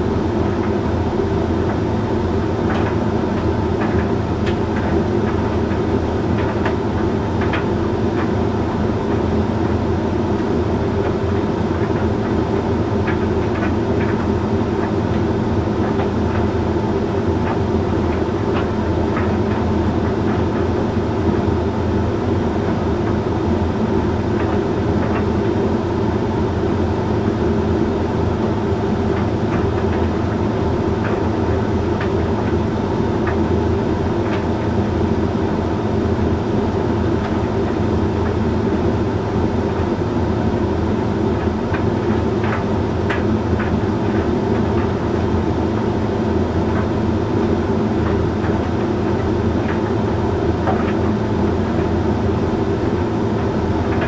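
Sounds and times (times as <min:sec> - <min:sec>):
tumble dryer motor and fan hum: 0:00.0 - 0:54.0.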